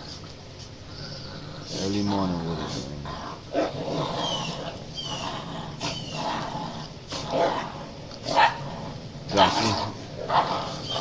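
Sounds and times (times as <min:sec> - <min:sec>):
dogs growling: 0:00.0 - 0:11.0.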